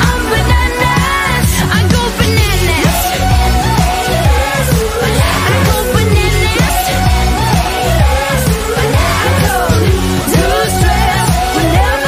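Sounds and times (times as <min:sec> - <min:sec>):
dance beat with heavy bass: 0:00.0 - 0:12.0
woman singing pop song: 0:00.0 - 0:12.0.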